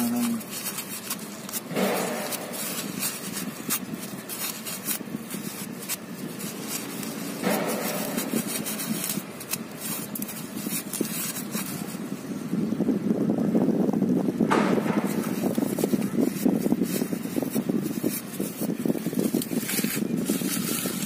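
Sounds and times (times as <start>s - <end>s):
paper rag rubbing and rustling: 0.0s - 12.4s, 14.5s - 21.0s.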